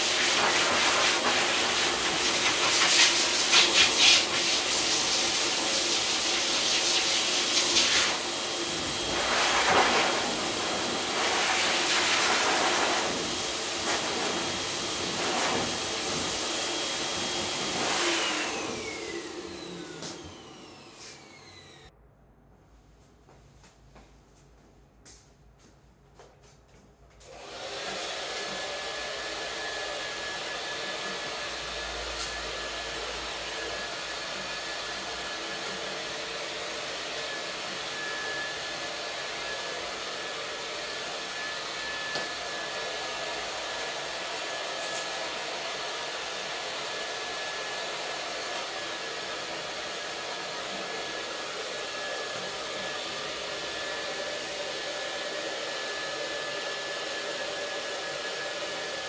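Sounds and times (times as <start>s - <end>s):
hair dryer running: 0.0s - 21.9s, 27.2s - 59.0s.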